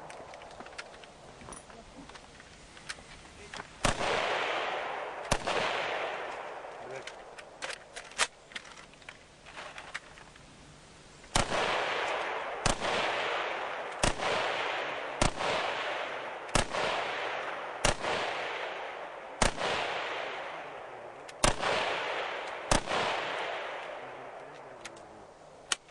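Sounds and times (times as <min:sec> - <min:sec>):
sharp cracks: 0:00.0 - 0:01.2, 0:02.0 - 0:10.5, 0:11.2 - 0:25.9
steady hiss: 0:00.0 - 0:25.9.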